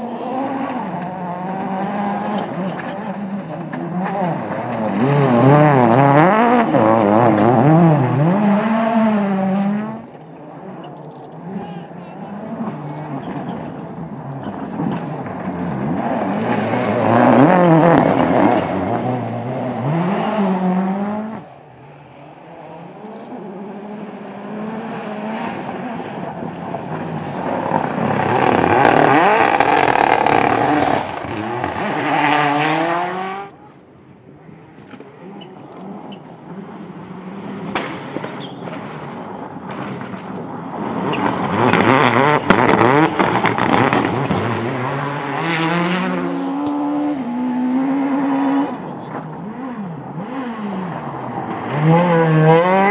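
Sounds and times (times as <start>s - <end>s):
rally cars racing past: 0.0s - 52.9s.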